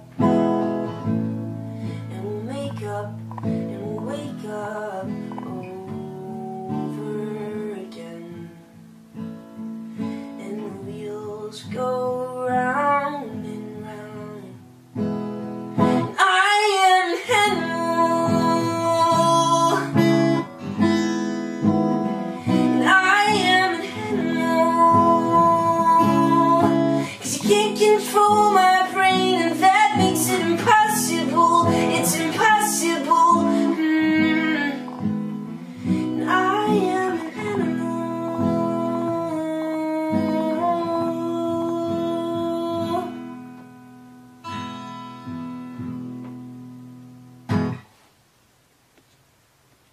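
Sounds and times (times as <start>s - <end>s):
acoustic guitar: 0.0s - 49.9s.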